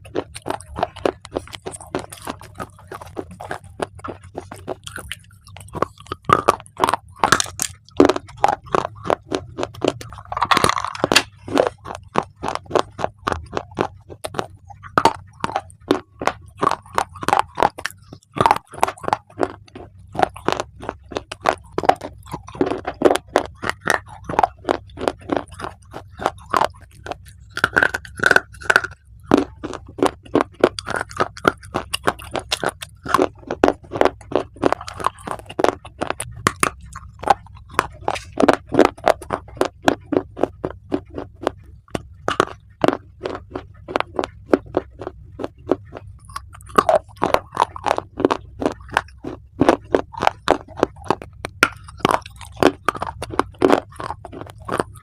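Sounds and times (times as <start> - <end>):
chewing crunchy clay: 0.0 - 55.0.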